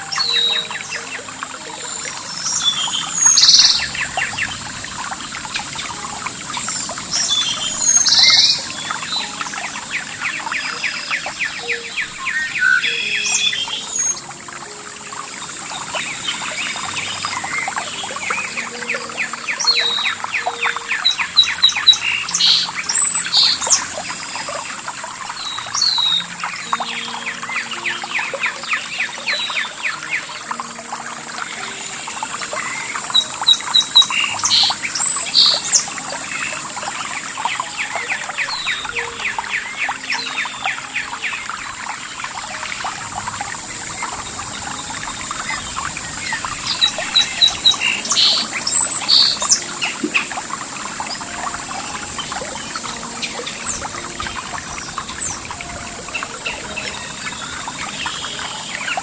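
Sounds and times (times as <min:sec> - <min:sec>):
birds chirping and calling: 0:00.0 - 0:59.0
trickle of running water: 0:00.0 - 0:59.0.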